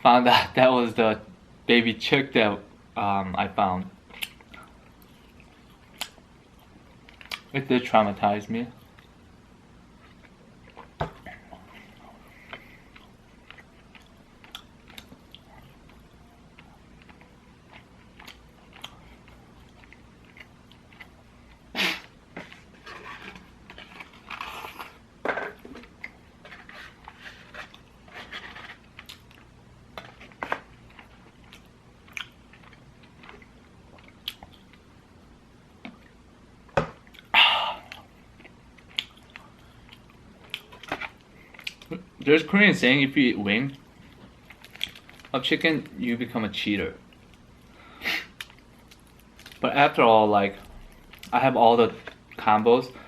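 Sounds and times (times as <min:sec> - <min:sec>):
crunching and chewing fried chicken: 0:04.0 - 0:09.2, 0:09.9 - 0:36.2, 0:37.0 - 0:53.0.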